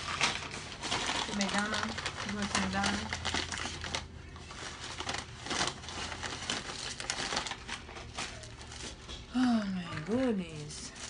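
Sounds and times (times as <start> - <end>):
paper bag rustling and crinkling: 0.0 - 9.3, 10.0 - 11.0.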